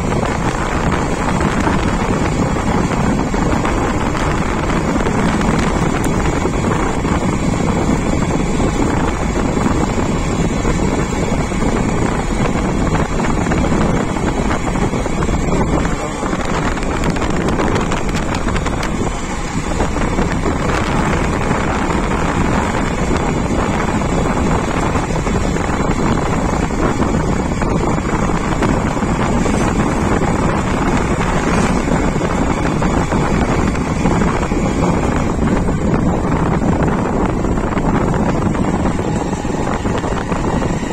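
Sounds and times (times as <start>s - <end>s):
steady rushing noise: 0.0s - 40.9s
wind buffeting microphone: 0.0s - 40.9s.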